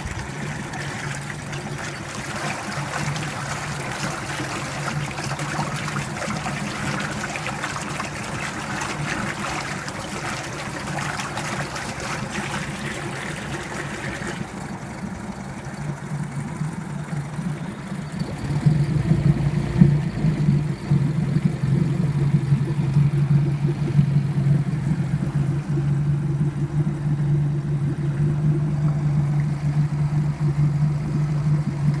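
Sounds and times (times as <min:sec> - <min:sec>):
outboard motor running: 0:00.0 - 0:32.0
water splashing: 0:00.0 - 0:32.0.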